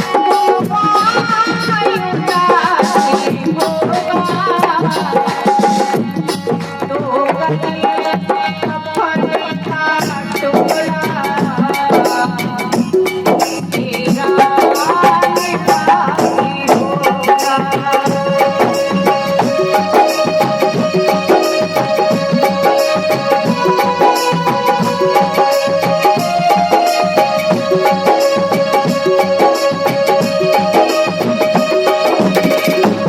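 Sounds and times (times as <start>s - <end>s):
devotional song melody: 0.0s - 33.0s
rattling percussion: 0.0s - 33.0s
tabla: 0.0s - 33.0s.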